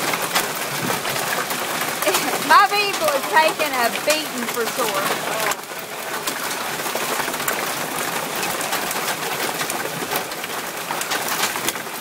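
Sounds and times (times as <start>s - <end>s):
hail clattering: 0.0s - 12.0s.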